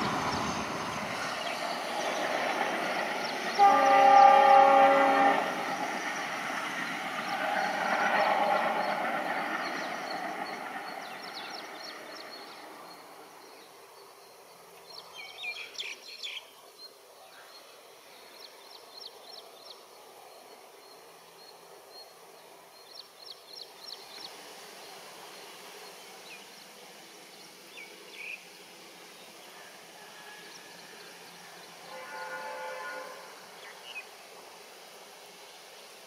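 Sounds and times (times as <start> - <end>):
faint outdoor background: 0.0 - 36.0.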